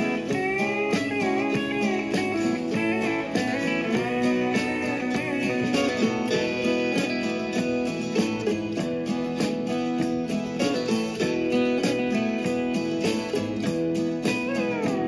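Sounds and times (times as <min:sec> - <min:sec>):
instrumental country music with guitar: 0:00.0 - 0:15.0.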